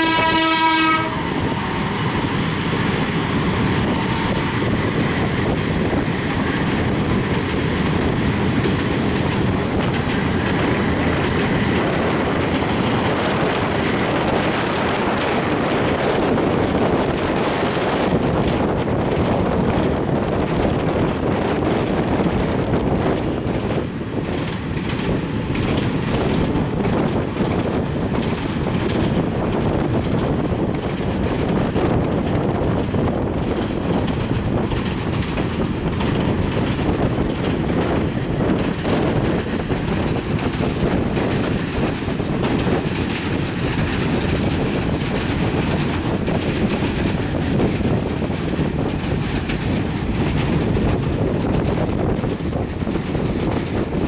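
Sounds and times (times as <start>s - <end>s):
freight train rumbling over bridge: 0.0s - 54.0s
wheels clattering on rails: 0.0s - 54.0s.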